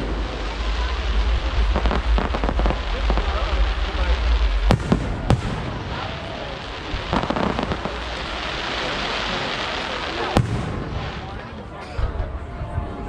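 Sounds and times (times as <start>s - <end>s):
crackle of bursting fireworks: 0.0s - 13.0s
firework bangs: 0.0s - 13.0s.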